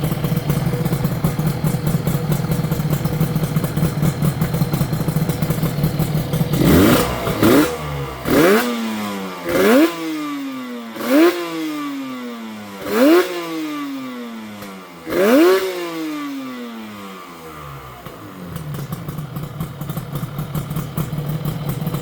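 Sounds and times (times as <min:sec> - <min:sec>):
two-stroke motorcycle engine revving: 0:00.0 - 0:22.0.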